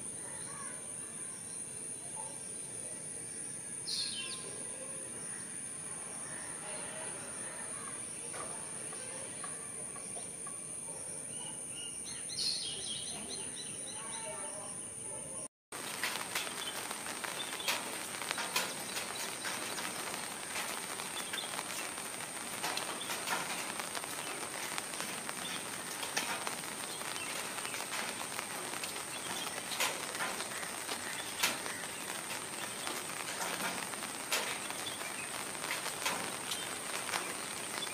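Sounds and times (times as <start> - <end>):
background hiss: 0.0 - 37.9.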